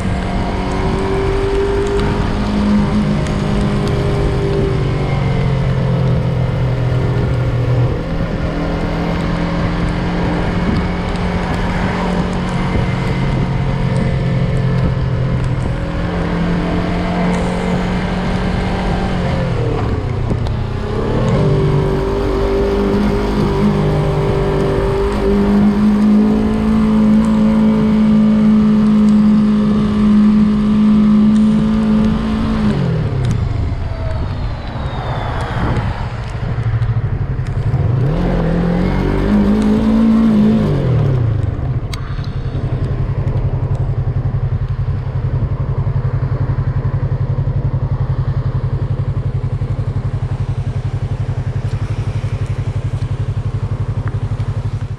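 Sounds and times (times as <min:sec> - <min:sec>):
motorcycle engine revving: 0:00.0 - 0:54.9
motorcycle engine running: 0:00.0 - 0:54.9.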